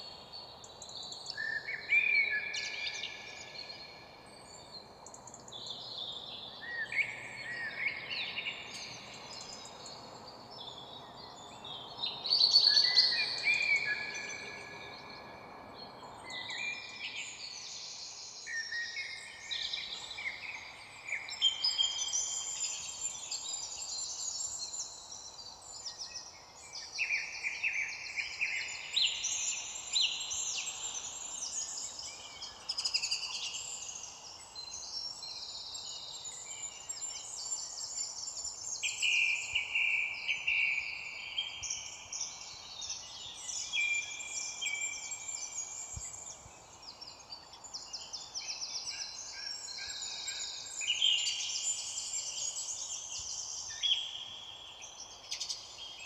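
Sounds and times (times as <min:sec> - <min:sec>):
faint background hiss: 0:00.0 - 0:56.0
songbirds singing: 0:00.0 - 0:56.0.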